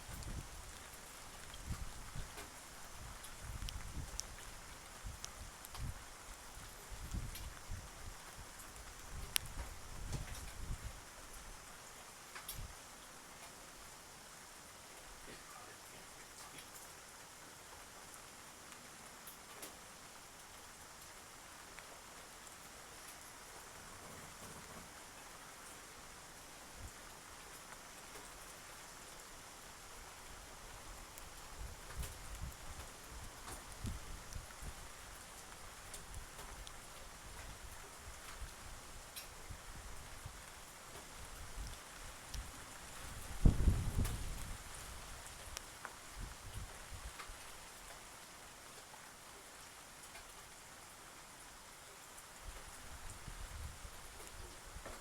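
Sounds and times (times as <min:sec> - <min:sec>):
faint ticks: 0:00.0 - 0:17.0, 0:17.6 - 0:55.0
faint outdoor hiss: 0:00.0 - 0:55.0
light rain falling: 0:00.0 - 0:55.0.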